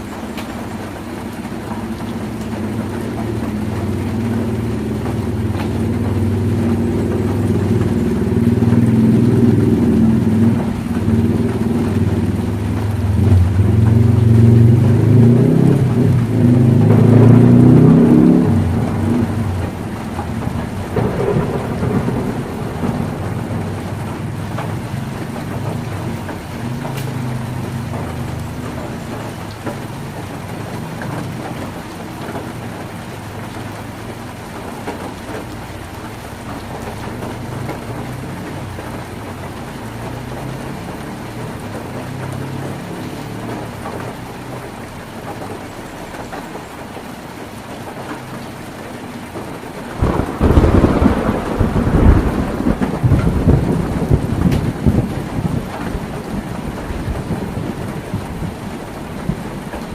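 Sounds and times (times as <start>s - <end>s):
thunder rumbling: 0.0s - 45.4s, 48.6s - 59.9s
heavy rain on a tin roof: 0.0s - 59.9s.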